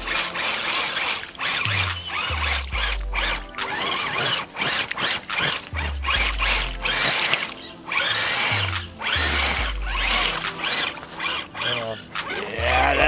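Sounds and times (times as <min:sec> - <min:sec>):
background music with bass line: 0:00.0 - 0:13.0
electric motor whining: 0:00.0 - 0:13.0.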